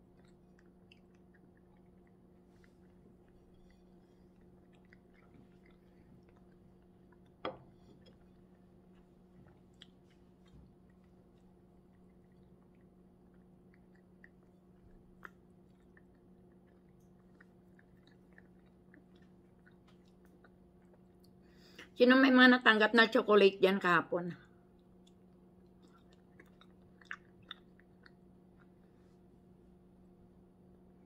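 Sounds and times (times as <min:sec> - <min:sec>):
person chewing food: 0:00.0 - 0:21.9, 0:24.6 - 0:30.9
faint steady hum: 0:00.0 - 0:31.0.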